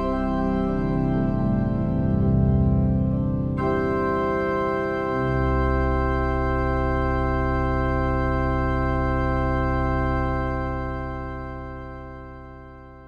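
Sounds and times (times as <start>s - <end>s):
electronic organ chord: 0.0s - 13.0s.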